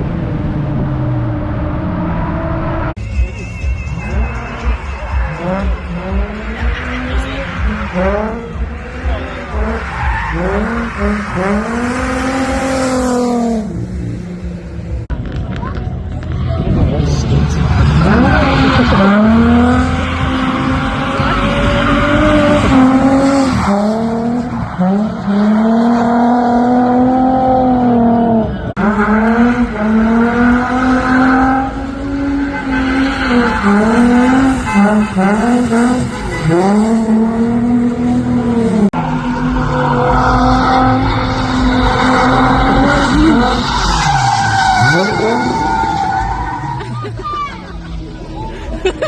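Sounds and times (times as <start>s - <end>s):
car engine revving: 0.0s - 48.4s
tyres skidding and squealing: 0.0s - 49.0s.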